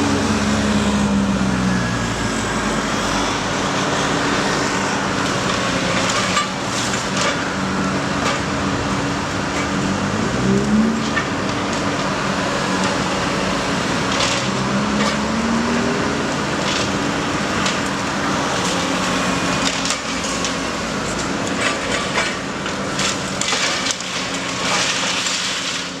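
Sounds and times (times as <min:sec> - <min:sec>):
heavy machine engine revving: 0:00.0 - 0:26.0
building material cracking and crashing: 0:03.8 - 0:26.0.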